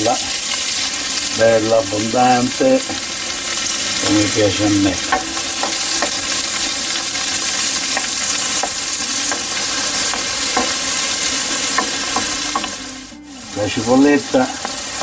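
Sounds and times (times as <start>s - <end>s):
onion sizzling in hot oil: 0.0s - 15.0s
wooden spoon scraping pan: 2.2s - 15.0s.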